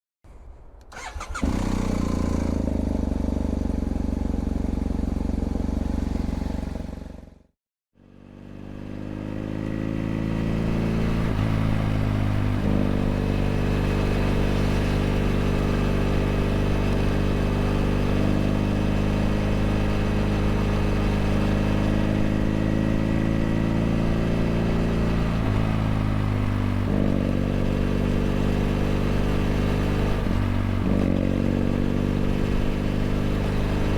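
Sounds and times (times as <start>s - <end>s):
motorcycle engine running: 1.0s - 33.9s.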